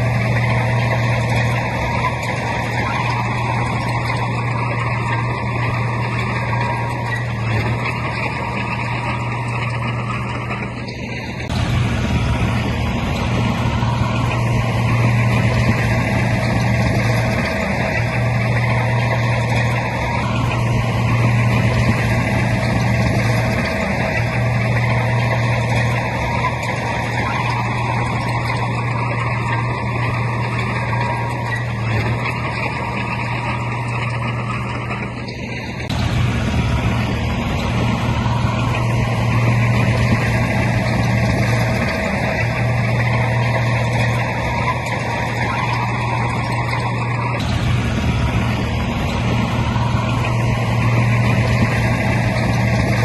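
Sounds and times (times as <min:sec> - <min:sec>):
heavy diesel engine droning: 0:00.0 - 0:53.0.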